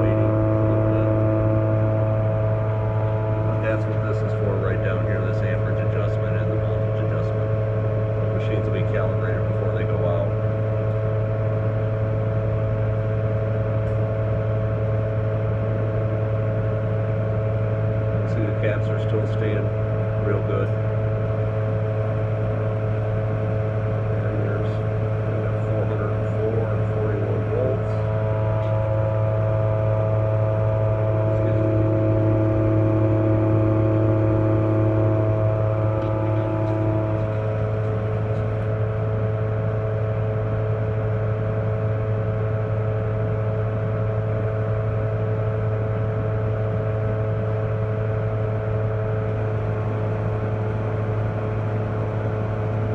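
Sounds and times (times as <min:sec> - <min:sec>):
cooling fan whirring: 0:00.0 - 0:52.9
steady electrical hum: 0:00.0 - 0:52.9
steady whining tones: 0:00.0 - 0:52.9.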